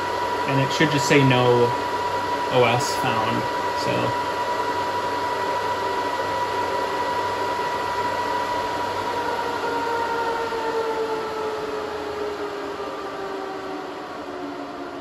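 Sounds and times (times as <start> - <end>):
server fans whining: 0.0 - 15.0.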